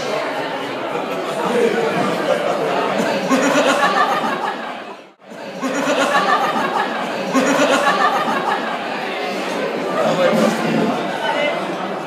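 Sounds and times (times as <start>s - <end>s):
people talking and chuckling: 0.0s - 12.0s.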